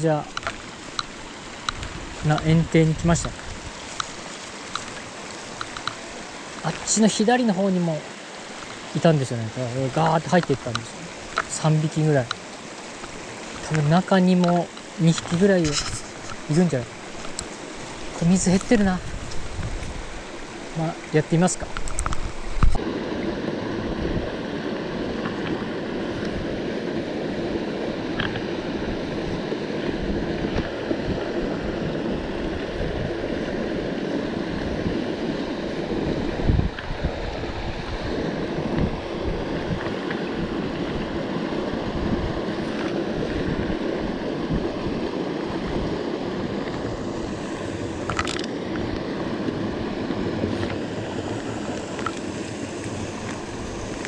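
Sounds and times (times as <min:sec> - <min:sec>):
wind buffeting microphone: 0:00.6 - 0:07.0, 0:09.9 - 0:22.8, 0:23.6 - 0:54.0.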